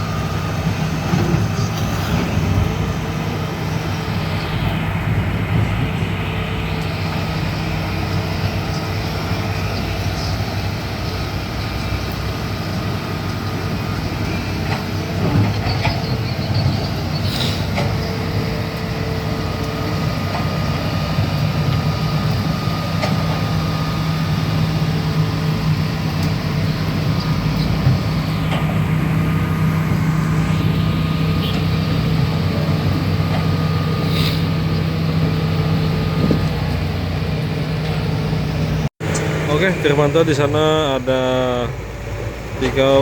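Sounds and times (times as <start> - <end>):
heavy vehicle engine humming: 0.0 - 43.0.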